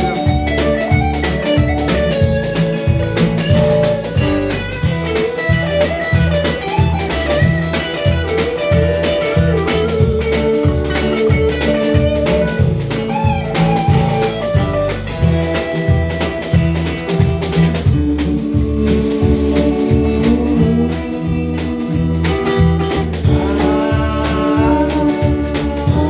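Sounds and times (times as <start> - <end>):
bass guitar: 0.0 - 26.0
drum kit steady beat: 0.0 - 26.0
lead guitar with bent notes: 0.0 - 26.0.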